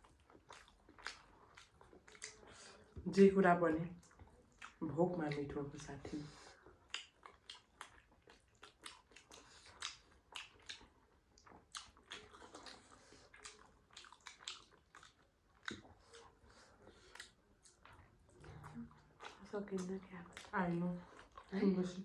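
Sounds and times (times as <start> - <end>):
faint chewing: 0.0 - 22.0.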